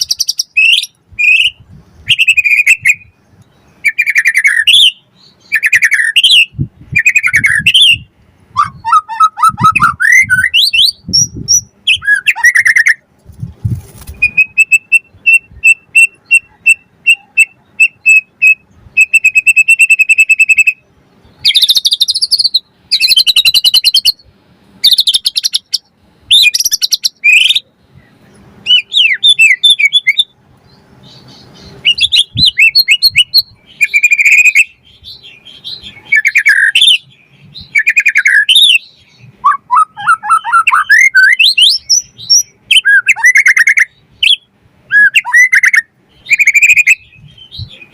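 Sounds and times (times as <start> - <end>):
songbird whistled song: 0.0 - 13.1, 14.0 - 47.9.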